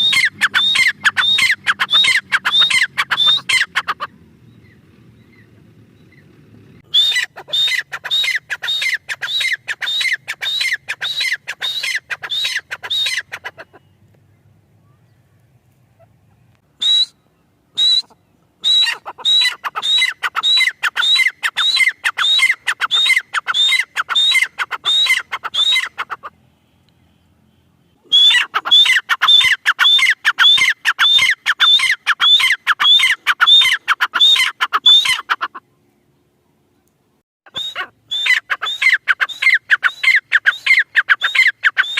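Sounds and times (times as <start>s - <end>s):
francolin calling: 0.0s - 15.2s, 16.8s - 26.4s, 27.0s - 35.8s, 37.5s - 41.9s.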